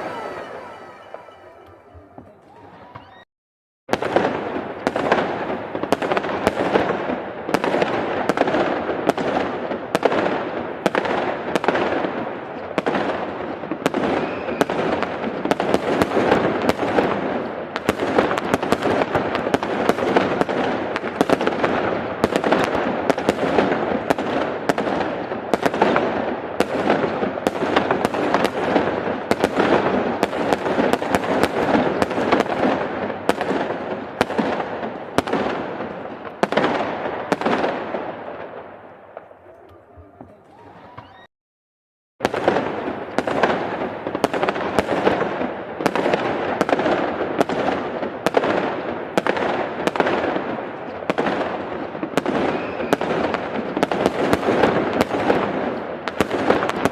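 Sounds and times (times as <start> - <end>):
fireworks crackling: 0.0 - 3.2, 3.9 - 41.2, 42.2 - 56.9.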